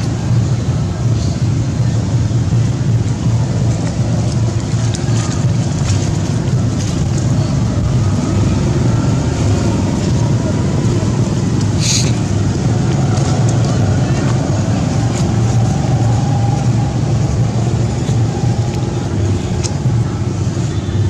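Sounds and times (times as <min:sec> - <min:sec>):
steady low rumbling: 0:00.0 - 0:21.0.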